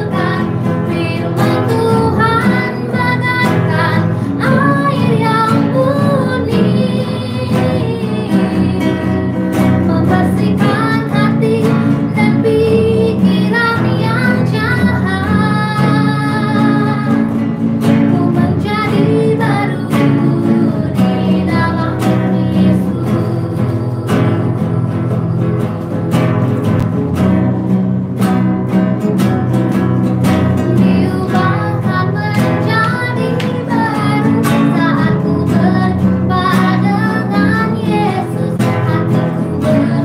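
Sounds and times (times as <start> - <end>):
woman singing: 0.0 - 26.5, 30.5 - 40.0
guitar accompaniment: 0.0 - 40.0.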